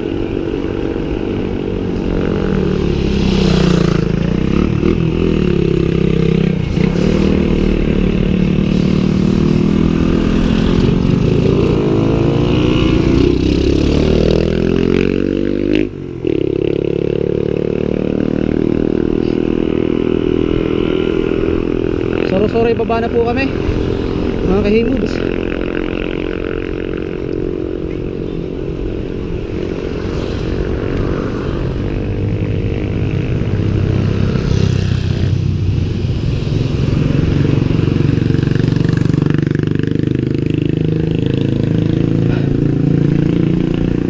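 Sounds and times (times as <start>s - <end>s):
vehicles passing on a road: 0.0s - 44.0s.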